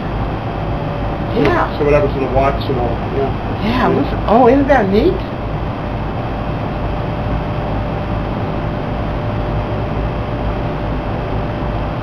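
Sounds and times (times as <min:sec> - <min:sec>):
air handler blower rushing: 0:00.0 - 0:12.0.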